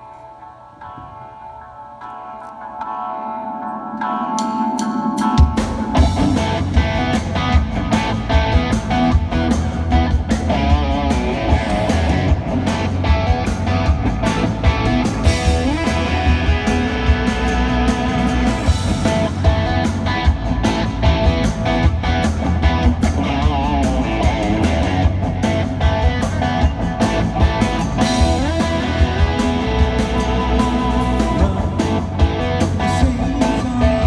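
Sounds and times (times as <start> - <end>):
rock band playing live: 2.9 - 34.0
loud electric guitar: 3.6 - 34.0.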